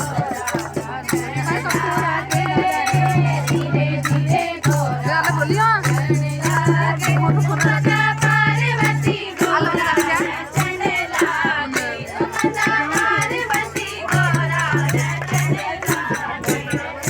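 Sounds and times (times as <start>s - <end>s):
rattling percussion strikes: 0.0s - 17.0s.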